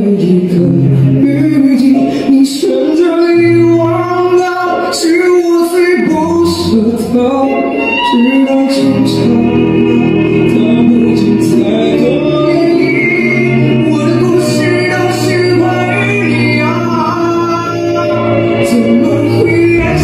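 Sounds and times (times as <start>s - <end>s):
man singing pop ballad: 0.0s - 20.0s
musical accompaniment: 0.0s - 20.0s.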